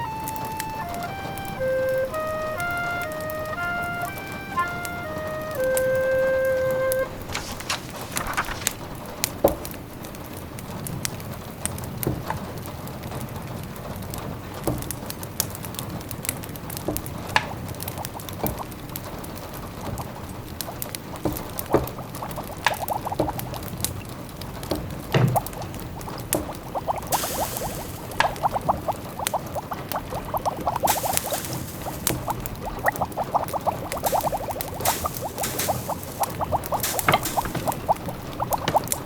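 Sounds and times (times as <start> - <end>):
log fire crackling: 0.0 - 13.5, 14.1 - 39.0
soft steady fire hiss: 0.0 - 39.0.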